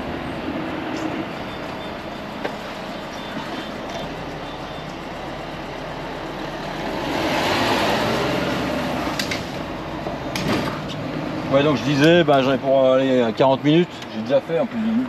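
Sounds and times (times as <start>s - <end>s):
truck road and engine noise: 0.0s - 15.0s.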